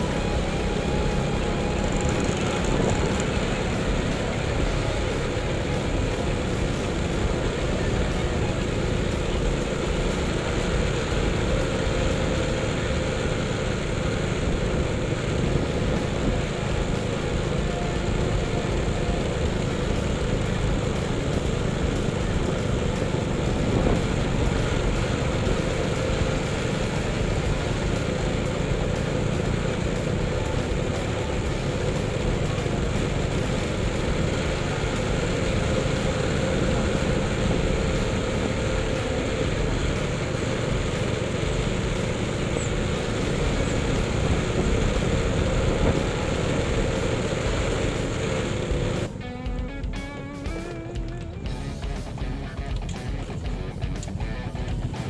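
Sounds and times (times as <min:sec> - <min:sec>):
motorcycle engine running: 0:00.0 - 0:55.0
road and wind noise: 0:00.0 - 0:55.0.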